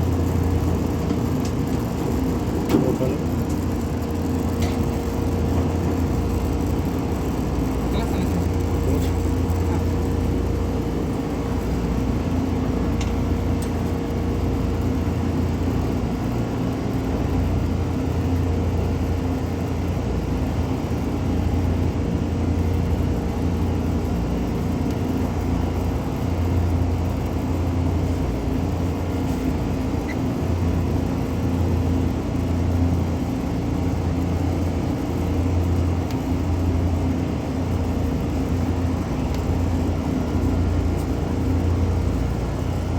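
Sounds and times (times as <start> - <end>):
machinery humming: 0.0 - 42.9.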